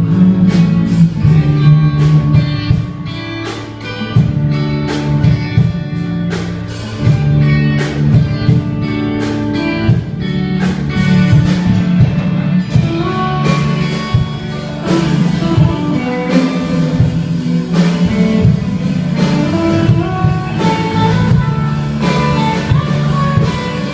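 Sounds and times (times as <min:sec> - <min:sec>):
bass line: 0:00.0 - 0:23.9
drum beat: 0:00.0 - 0:23.9
guitar: 0:00.0 - 0:23.9.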